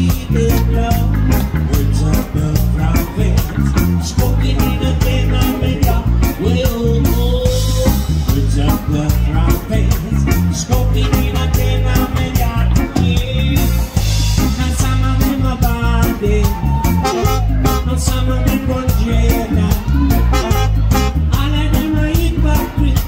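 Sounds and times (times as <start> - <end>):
person singing: 0.0 - 23.0
reggae band playing: 0.0 - 23.0.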